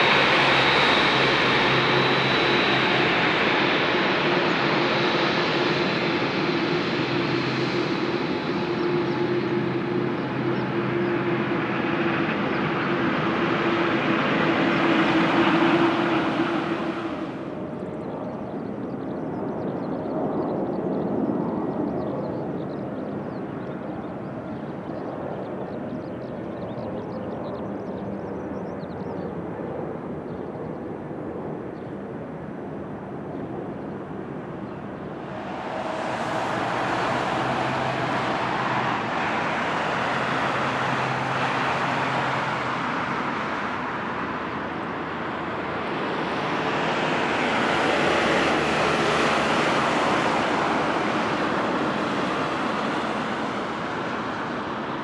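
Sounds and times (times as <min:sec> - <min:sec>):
jet airliner passing overhead: 0:00.0 - 0:29.9, 0:32.4 - 0:55.0.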